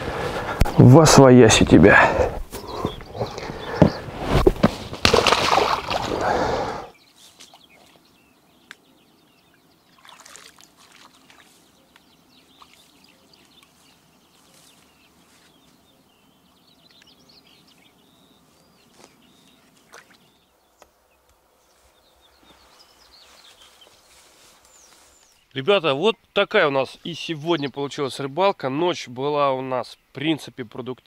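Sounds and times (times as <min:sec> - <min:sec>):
small birds chirping: 0:00.0 - 0:04.2, 0:05.2 - 0:31.0
outdoor hush: 0:00.0 - 0:31.0.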